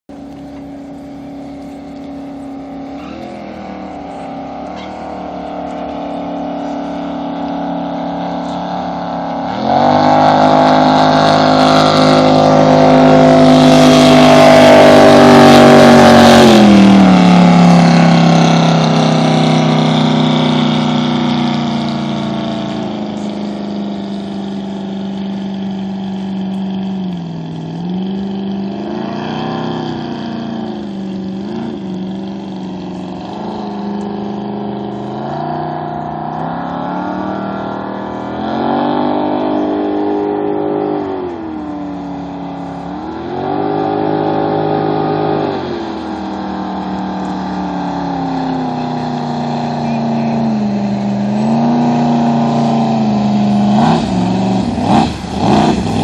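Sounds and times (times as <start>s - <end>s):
boat engine revving: 0.1s - 56.0s.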